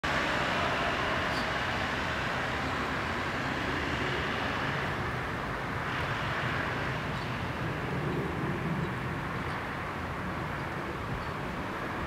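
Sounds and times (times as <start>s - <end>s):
distant road traffic hum: 0.0s - 12.0s.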